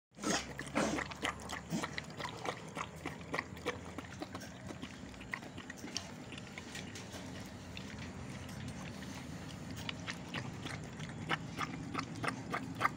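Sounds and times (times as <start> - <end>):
dog eating from plastic bowl: 0.2 - 12.9.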